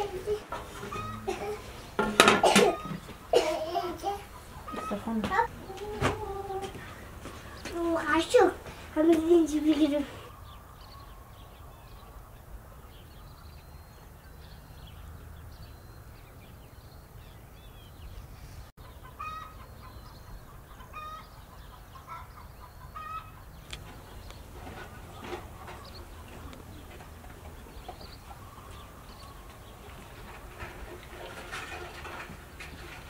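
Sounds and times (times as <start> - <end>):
chickens clucking: 0.0 - 13.0, 18.8 - 33.0.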